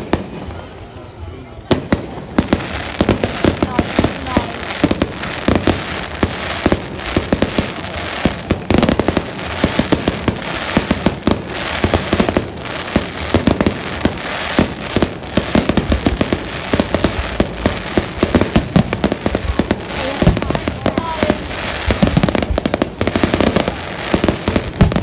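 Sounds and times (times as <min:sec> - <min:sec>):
fireworks exploding: 0:00.0 - 0:25.0.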